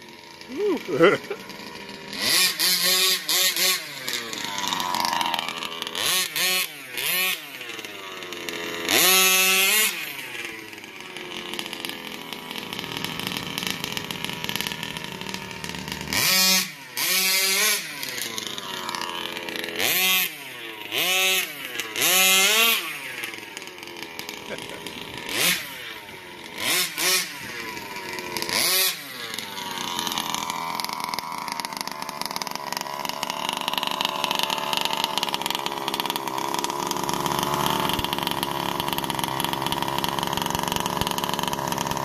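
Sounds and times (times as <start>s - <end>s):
two-stroke engine revving: 0.0s - 42.0s.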